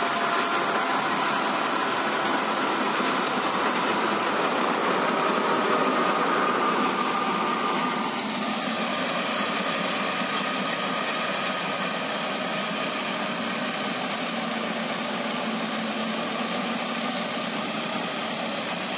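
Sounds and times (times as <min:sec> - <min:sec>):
tractor and reaper drone: 0:00.0 - 0:18.9.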